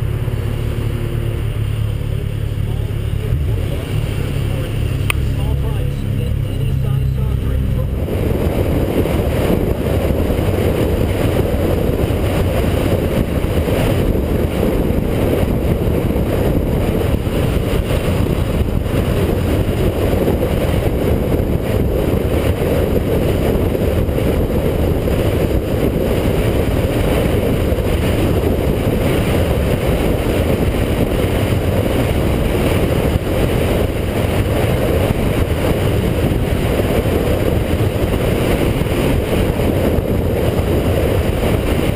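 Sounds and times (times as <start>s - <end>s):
motorcycle engine: 0.0s - 41.9s
road noise: 0.0s - 41.9s
wind buffeting microphone: 0.0s - 41.9s.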